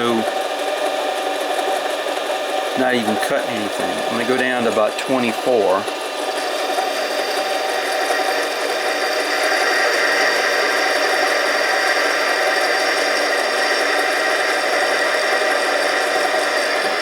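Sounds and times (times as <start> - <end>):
lathe motor and gears running: 0.0 - 17.0
lathe tool cutting metal tube: 0.0 - 17.0.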